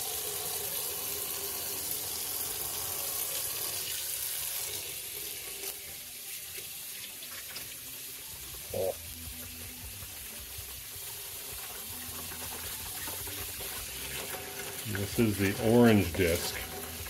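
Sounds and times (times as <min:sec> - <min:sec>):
faucet water splashing in sink: 0:00.0 - 0:09.0, 0:09.9 - 0:17.0.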